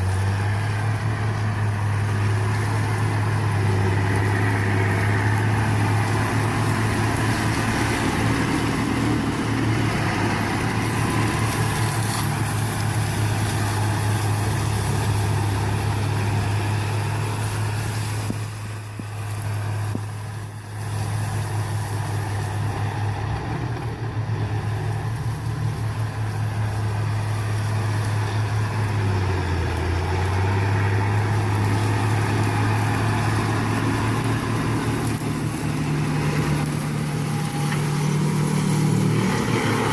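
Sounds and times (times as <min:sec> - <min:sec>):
machine engine humming: 0:00.0 - 0:39.9.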